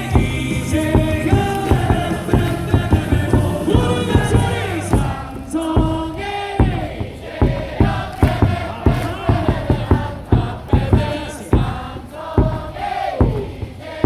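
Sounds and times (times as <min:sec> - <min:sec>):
cheer song over loudspeakers: 0:00.0 - 0:14.0
crowd singing and chanting: 0:00.0 - 0:14.0.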